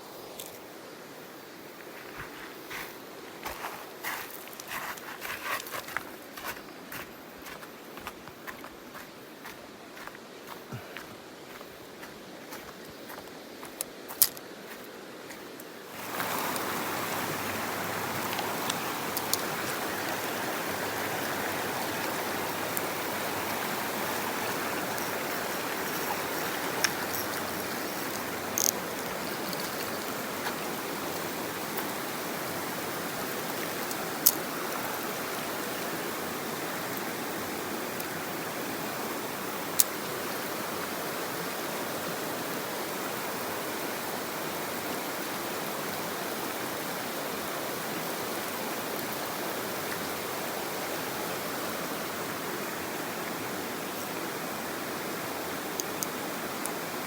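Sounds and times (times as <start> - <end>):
stream rushing over rocks: 2.1 - 57.0.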